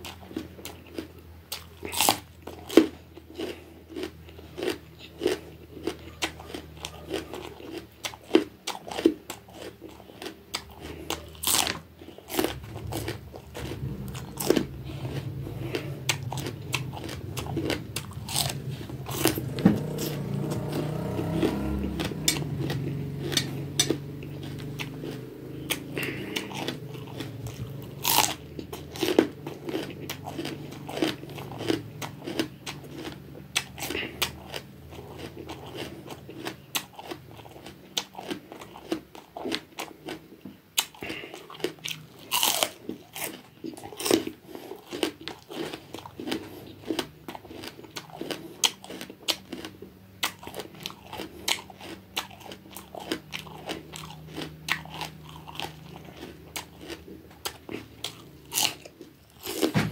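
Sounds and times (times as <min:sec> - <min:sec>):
crisp crunching bites: 0:00.0 - 0:40.2, 0:40.8 - 0:59.8
wet chewing: 0:00.0 - 0:59.9.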